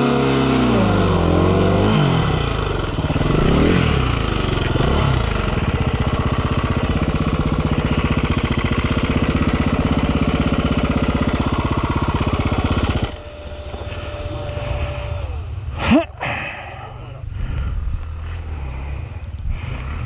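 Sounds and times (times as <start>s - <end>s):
motorcycle engine running: 0.0s - 20.0s
low rumble: 2.6s - 20.0s.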